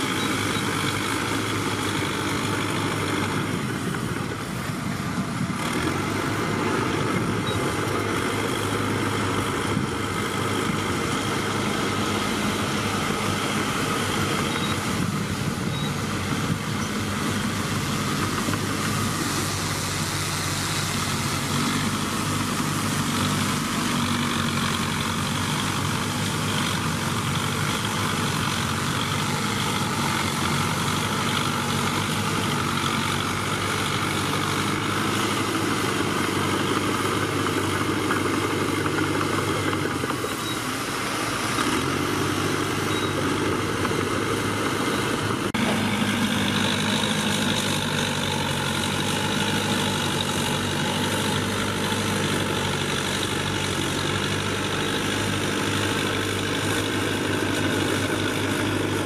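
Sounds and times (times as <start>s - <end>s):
bulldozer diesel engines running: 0.0s - 59.0s
bulldozer pushing soil: 0.0s - 59.0s.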